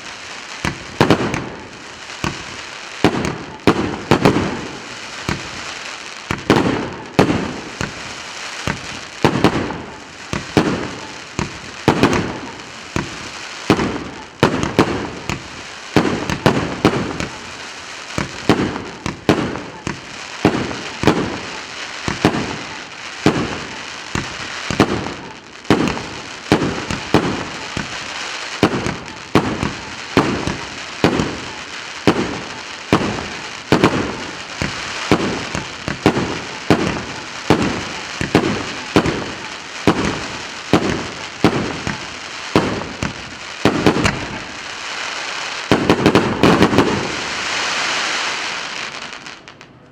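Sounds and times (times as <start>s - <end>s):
firework cake shots: 0.0s - 49.8s.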